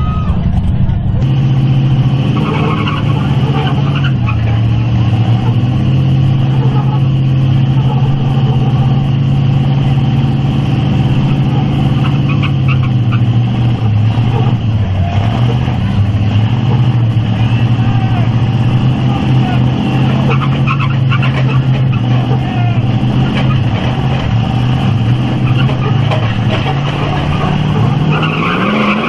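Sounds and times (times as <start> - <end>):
truck engines at high revs: 0.0 - 29.0.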